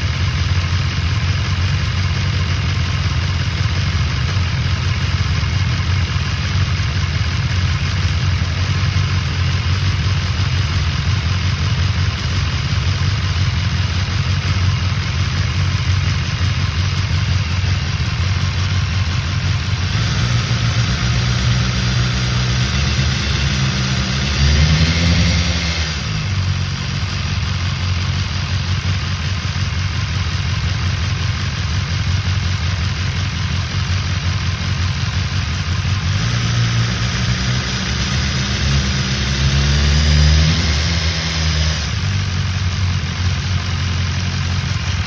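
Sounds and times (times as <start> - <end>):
motorcycle engine idling: 0.0 - 45.0.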